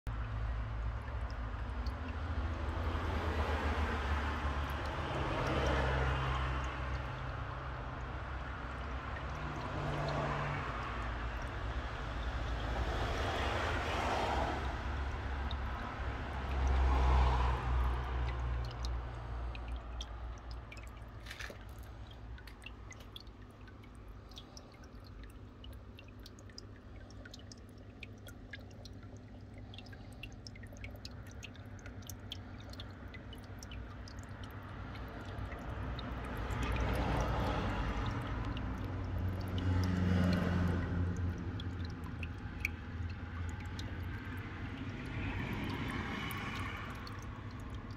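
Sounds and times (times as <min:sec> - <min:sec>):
sharp water drips: 0:00.0 - 0:47.9
low hum and rumble: 0:00.1 - 0:47.9
stream trickling over rock: 0:00.1 - 0:47.9.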